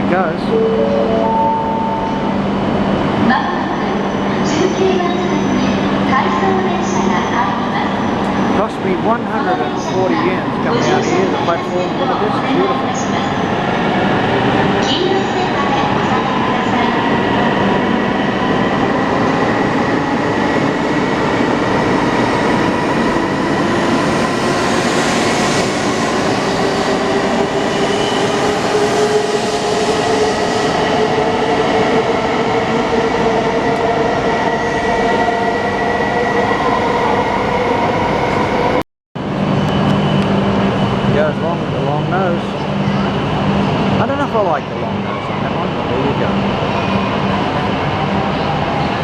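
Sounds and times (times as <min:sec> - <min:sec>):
train rushing rumble: 0:01.6 - 0:49.0.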